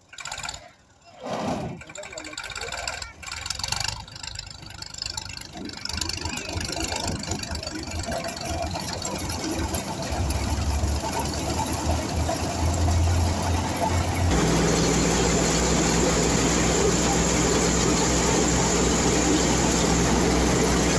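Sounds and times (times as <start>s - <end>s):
deep engine drone: 1.6s - 20.9s
thresher drum running: 1.8s - 20.9s.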